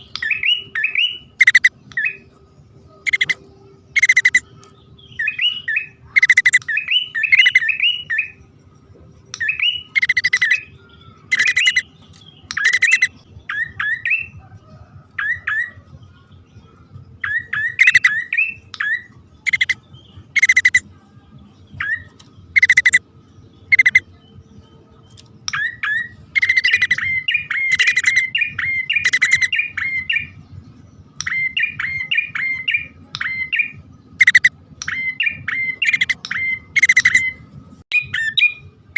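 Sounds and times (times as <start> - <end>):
bird sharp chirps: 0.0 - 2.3, 2.9 - 8.4, 9.3 - 15.8, 17.2 - 20.8, 21.7 - 30.6, 31.2 - 38.7.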